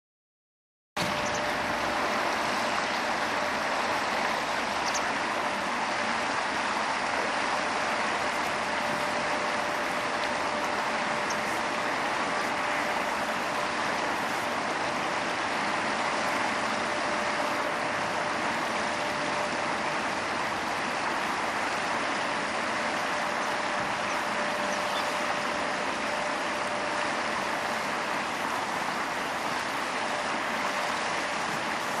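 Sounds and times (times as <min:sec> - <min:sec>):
faint steady hum: 0:01.0 - 0:32.0
river water running over stones: 0:01.0 - 0:32.0.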